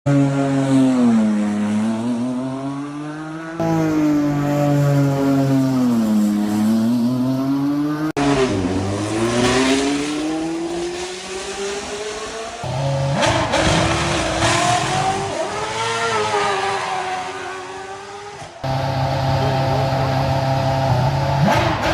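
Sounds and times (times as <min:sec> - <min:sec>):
supercar engines revving: 0:00.1 - 0:21.9.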